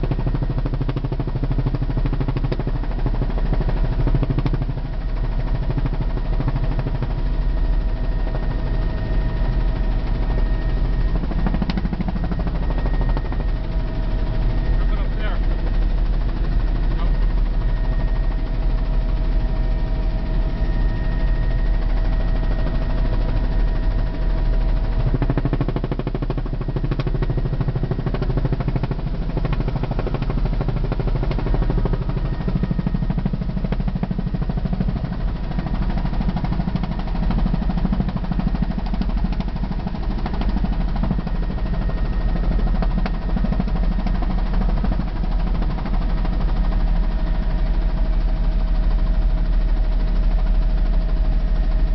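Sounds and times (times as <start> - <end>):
helicopter rotor and engine drone: 0.0 - 51.9.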